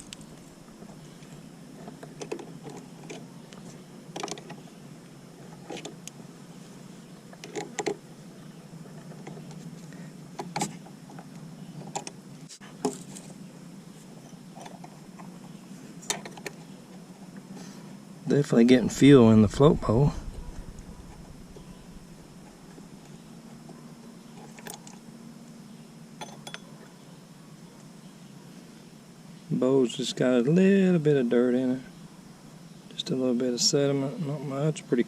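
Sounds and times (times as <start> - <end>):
steady low hum: 0.0 - 26.2, 27.0 - 35.0.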